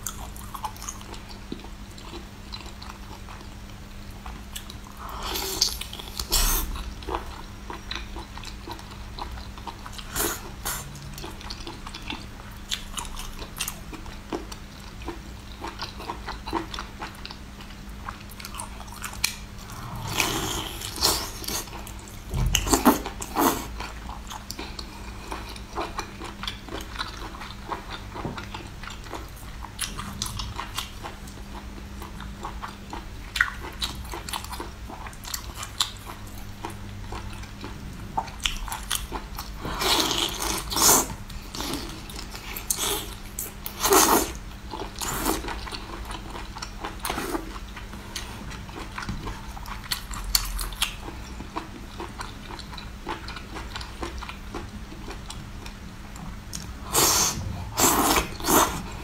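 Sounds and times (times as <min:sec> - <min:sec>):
wet chewing and mouth smacking: 0:05.4 - 0:58.9.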